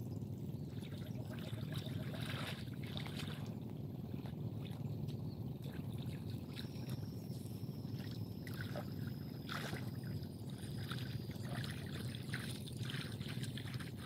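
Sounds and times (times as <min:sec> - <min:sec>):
steady low rumble: 0:00.0 - 0:14.0
water sloshing and splashing: 0:00.7 - 0:14.0.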